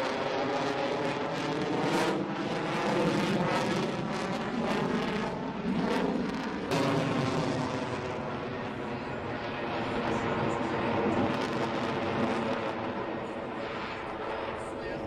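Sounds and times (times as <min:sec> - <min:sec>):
jet fighter flying past: 0:00.0 - 0:15.0.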